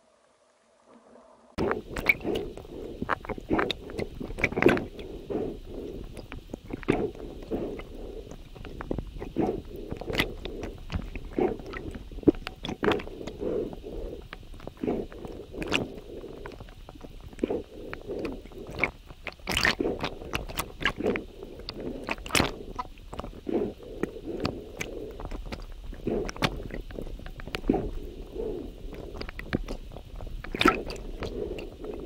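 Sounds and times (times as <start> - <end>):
muffled underwater rumble: 0.0 - 32.0.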